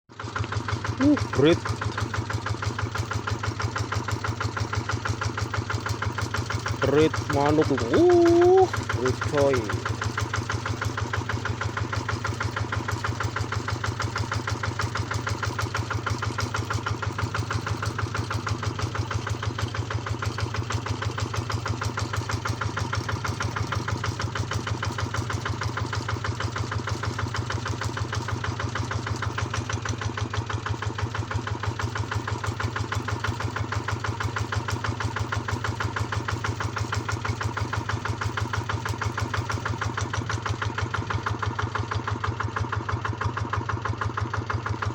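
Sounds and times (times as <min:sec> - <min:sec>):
engine running steadily: 0:00.2 - 0:44.9.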